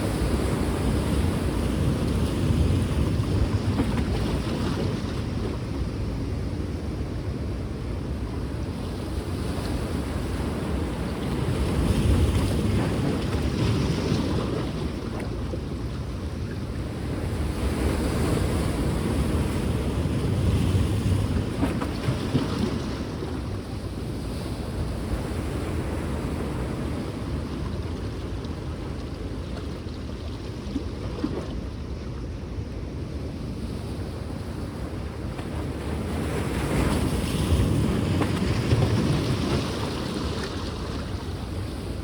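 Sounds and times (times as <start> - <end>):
wind buffeting microphone: 0.0 - 31.4, 33.1 - 42.0
sea waves washing ashore: 0.0 - 42.0.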